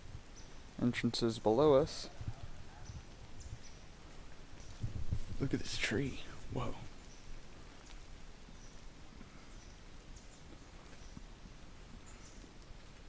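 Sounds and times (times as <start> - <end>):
low hiss and rumble: 0.0 - 13.0.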